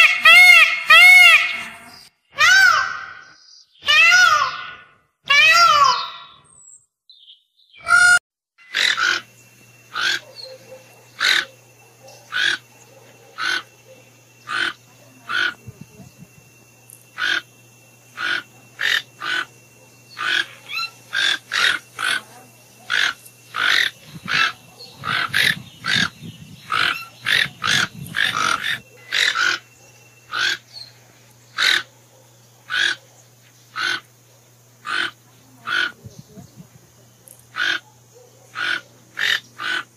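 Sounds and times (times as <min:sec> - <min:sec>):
toucan yelping calls: 0:00.0 - 0:06.6, 0:07.8 - 0:15.9, 0:17.1 - 0:31.9, 0:32.6 - 0:34.1, 0:34.8 - 0:36.0, 0:37.3 - 0:39.9.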